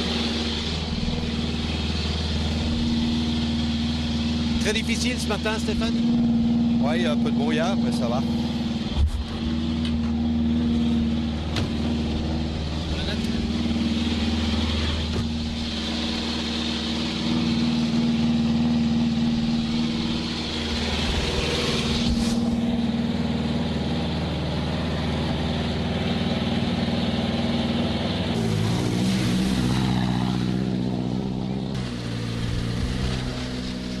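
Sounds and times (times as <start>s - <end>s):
rally car engine idling: 0.0s - 34.0s.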